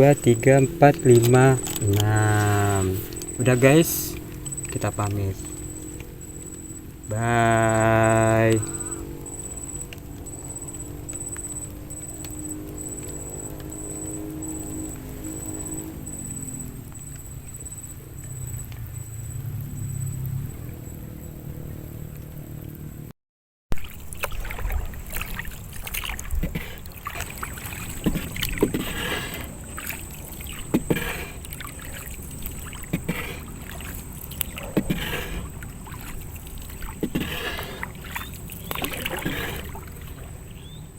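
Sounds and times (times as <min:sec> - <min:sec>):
paddle splashing through water: 0:00.0 - 0:16.1, 0:23.8 - 0:40.8
steady water noise: 0:00.0 - 0:23.1, 0:23.7 - 0:40.9.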